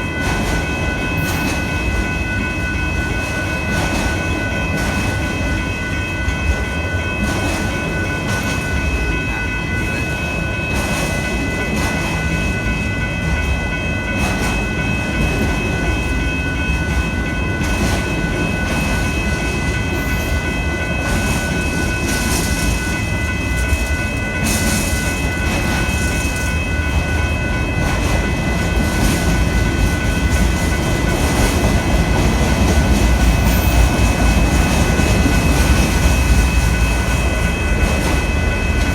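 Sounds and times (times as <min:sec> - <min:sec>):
high-pitched ringing: 0:00.0 - 0:38.9.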